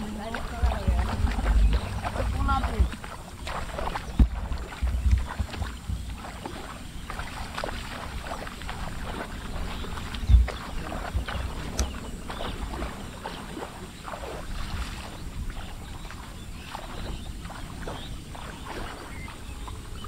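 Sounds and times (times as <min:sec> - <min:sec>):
steady low rumble: 0:00.0 - 0:18.7
feet wading through water: 0:00.0 - 0:20.0.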